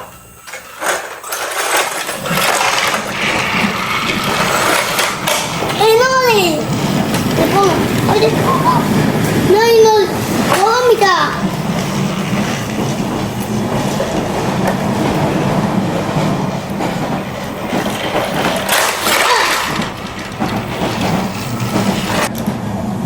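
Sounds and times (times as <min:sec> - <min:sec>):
toy train motor hum: 0:00.0 - 0:22.4
toy train wheels rattling: 0:00.5 - 0:22.3.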